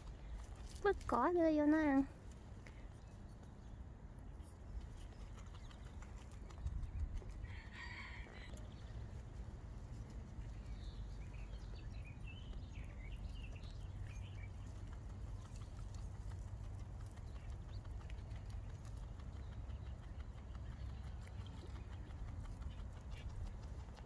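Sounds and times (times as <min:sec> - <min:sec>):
rabbit chewing grass: 0:00.0 - 0:24.0
steady low rumble: 0:02.0 - 0:24.0.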